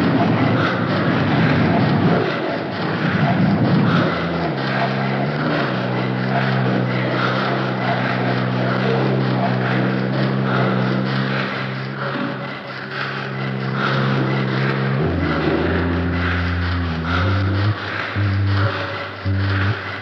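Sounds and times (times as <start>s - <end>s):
low drone of held tones: 0.0s - 20.0s.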